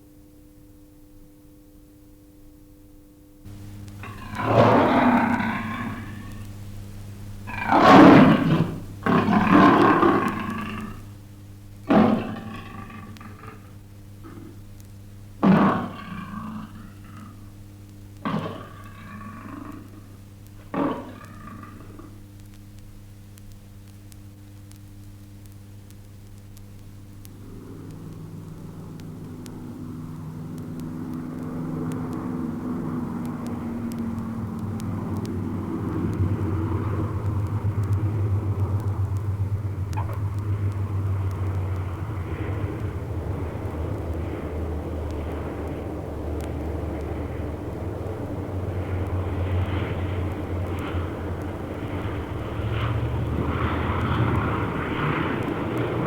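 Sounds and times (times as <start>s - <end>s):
engine humming: 3.4s - 22.6s, 25.5s - 56.0s.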